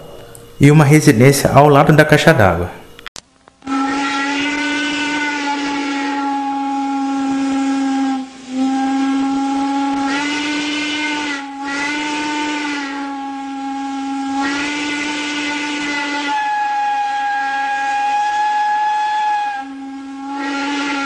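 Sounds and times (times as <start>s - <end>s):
steam locomotive whistle: 3.6s - 21.0s.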